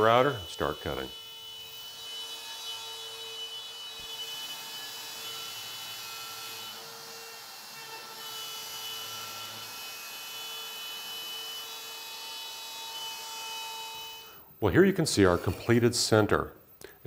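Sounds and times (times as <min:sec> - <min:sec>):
router motor whining while cutting wood: 0:00.0 - 0:14.3.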